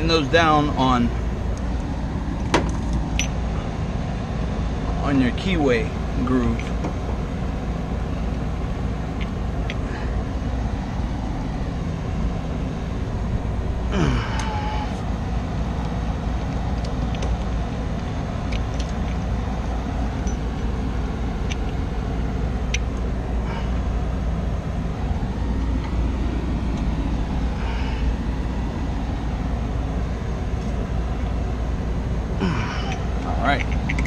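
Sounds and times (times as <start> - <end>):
low machinery rumble: 0.0 - 34.0.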